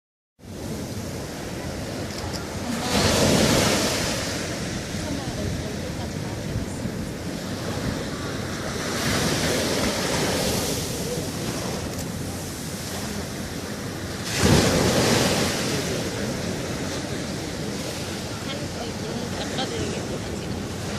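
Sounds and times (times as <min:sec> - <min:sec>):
sea waves breaking on beach: 0:00.4 - 0:20.9.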